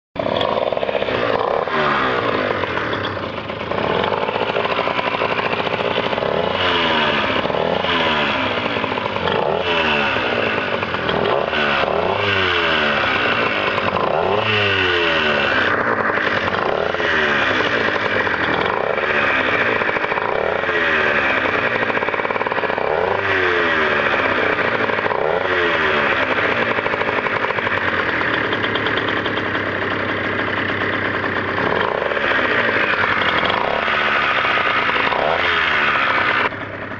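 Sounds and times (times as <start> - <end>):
scooter engine revving: 0.2 - 36.9.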